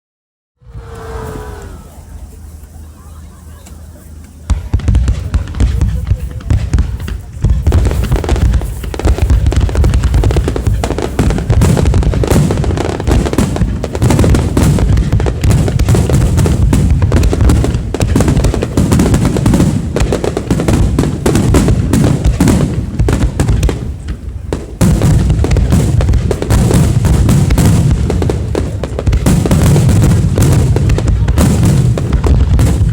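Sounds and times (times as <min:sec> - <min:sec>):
fireworks booming and crackling: 0:00.6 - 0:32.9.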